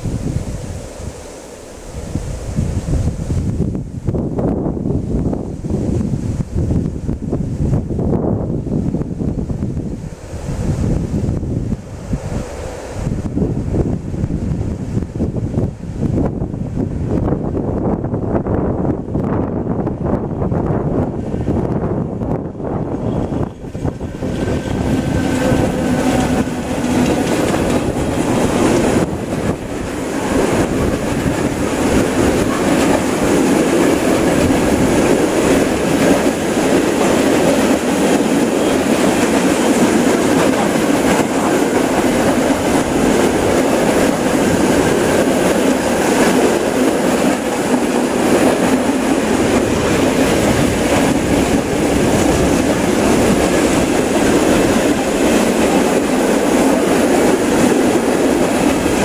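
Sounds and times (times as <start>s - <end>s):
electric locomotive passing: 0.0s - 59.0s
freight train wheels rolling: 0.0s - 59.0s.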